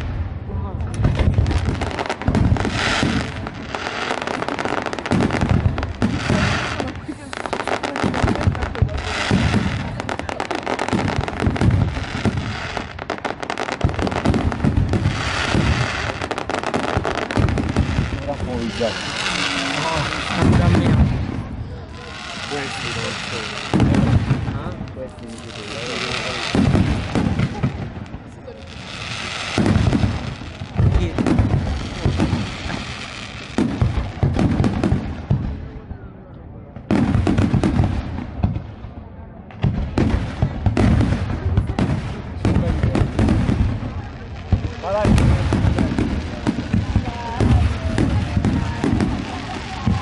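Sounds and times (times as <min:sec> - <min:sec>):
fireworks crackling pops: 0:00.0 - 0:50.0
fireworks deep booms: 0:00.0 - 0:50.0.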